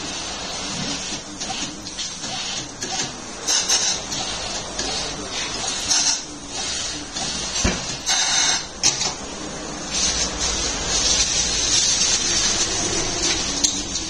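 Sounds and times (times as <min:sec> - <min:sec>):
air hissing: 0:00.0 - 0:09.0, 0:09.8 - 0:14.0.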